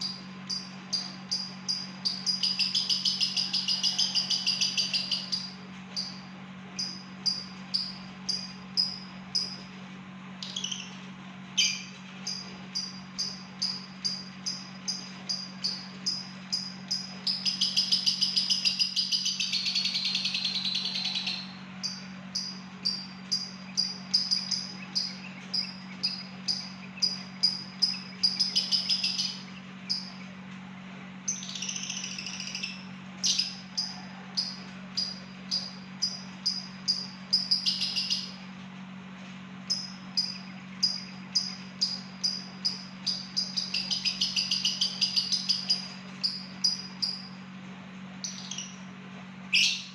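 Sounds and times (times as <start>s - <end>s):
lovebird high chirps: 0.0s - 9.6s, 10.4s - 11.0s, 11.6s - 30.2s, 31.3s - 38.4s, 39.7s - 47.4s, 48.2s - 48.9s, 49.5s - 49.9s
lovebird continuous high chatter: 0.0s - 30.3s, 31.2s - 38.5s, 39.6s - 47.4s, 48.2s - 48.9s, 49.5s - 49.9s
steady low hum: 0.0s - 49.9s.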